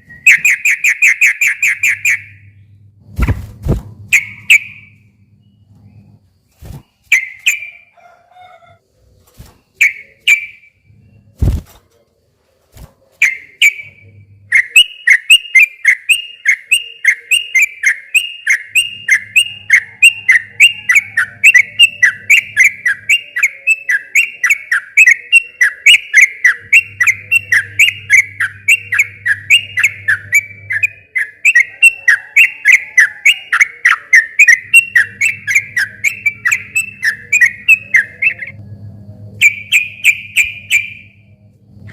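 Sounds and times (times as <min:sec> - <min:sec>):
bird singing whistled notes: 0:00.0 - 0:02.8, 0:04.1 - 0:06.2, 0:07.0 - 0:07.9, 0:09.7 - 0:11.3, 0:13.2 - 0:38.6, 0:39.4 - 0:41.3.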